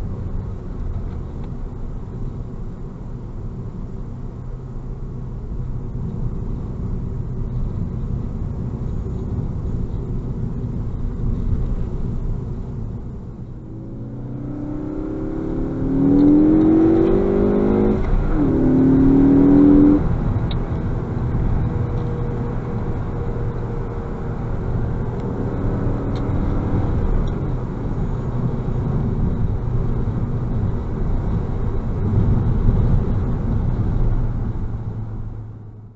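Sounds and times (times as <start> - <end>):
road noise: 0.0 - 35.9
car engine accelerating: 5.6 - 35.9.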